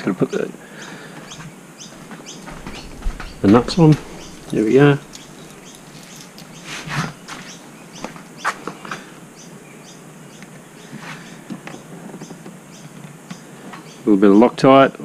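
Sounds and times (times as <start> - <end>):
birds chirping: 0.3 - 14.8.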